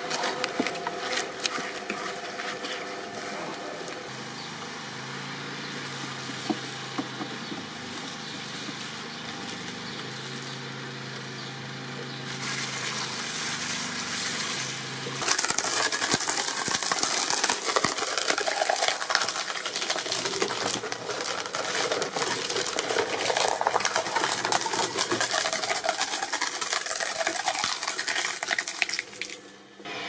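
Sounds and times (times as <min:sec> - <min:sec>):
shredding machine cracking material: 0:00.0 - 0:05.0, 0:05.6 - 0:29.6.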